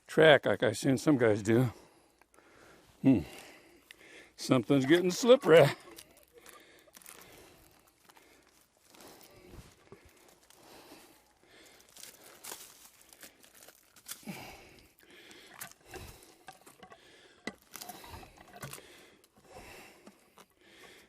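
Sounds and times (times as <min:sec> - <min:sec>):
log crunching and scraping: 0:02.4 - 0:21.0.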